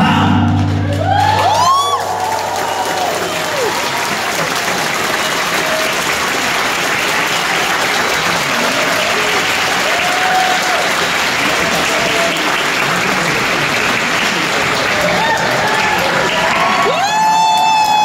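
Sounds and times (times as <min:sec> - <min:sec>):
audience applauding: 0:00.6 - 0:18.0.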